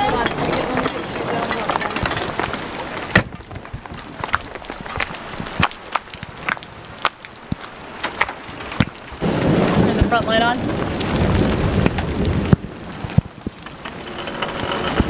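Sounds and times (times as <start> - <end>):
hailstones clicking on metal and gravel: 0.0 - 15.0
steady hiss of hail: 0.0 - 15.0.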